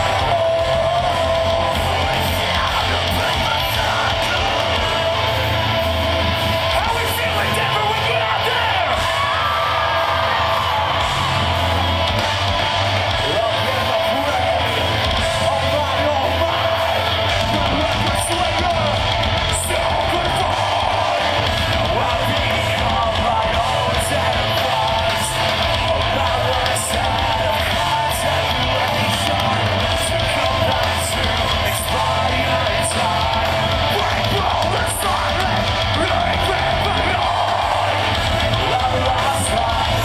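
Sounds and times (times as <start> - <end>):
harsh shouted vocals: 0.0 - 40.0
metal band playing live: 0.0 - 40.0.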